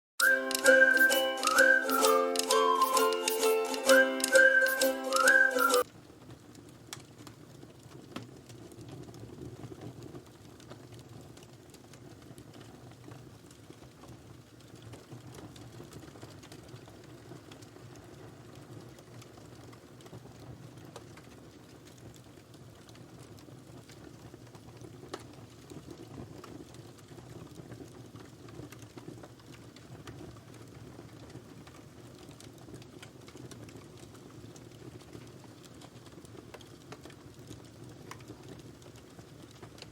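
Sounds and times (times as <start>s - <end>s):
fire crackling and popping: 0.2s - 39.9s.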